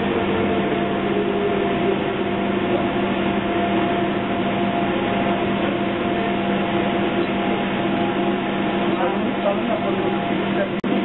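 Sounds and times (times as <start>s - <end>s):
train hum: 0.0s - 11.0s.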